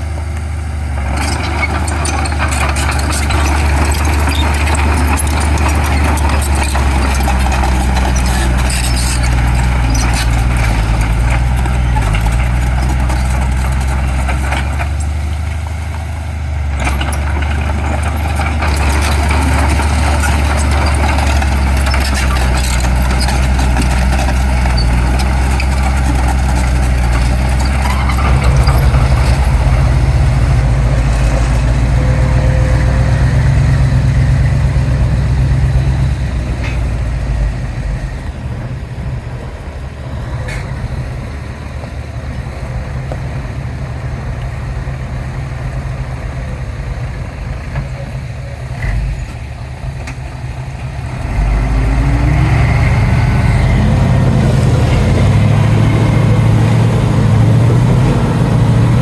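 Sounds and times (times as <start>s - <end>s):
heavy diesel engines droning: 0.0s - 59.0s.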